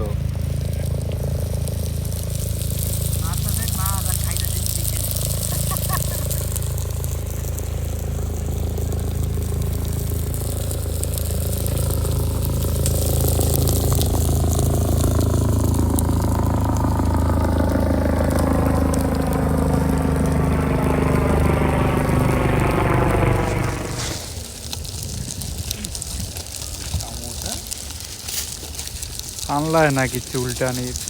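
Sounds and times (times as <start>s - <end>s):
motor engine whining: 0.0s - 27.0s.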